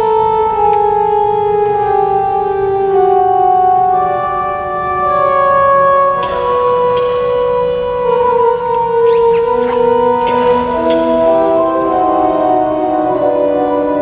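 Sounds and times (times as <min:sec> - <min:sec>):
church organ playing: 0:00.0 - 0:14.0.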